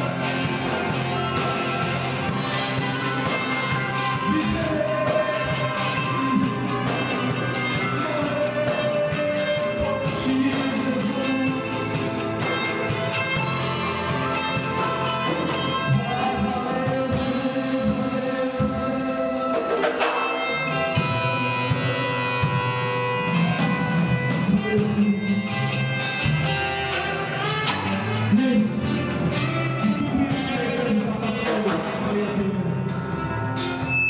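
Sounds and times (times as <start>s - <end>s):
worship music with singing: 0.0s - 34.0s.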